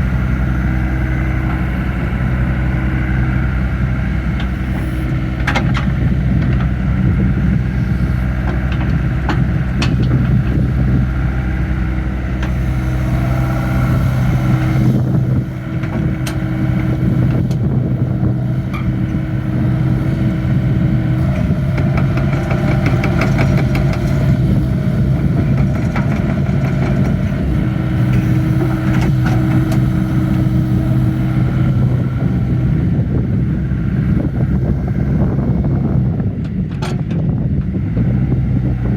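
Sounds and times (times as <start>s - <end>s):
excavator diesel engine running: 0.0s - 38.9s
hydraulic whine: 0.0s - 38.9s.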